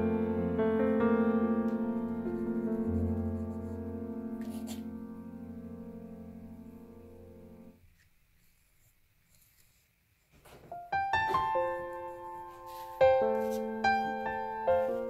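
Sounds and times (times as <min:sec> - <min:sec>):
piano notes: 0:00.0 - 0:07.8, 0:10.6 - 0:15.0.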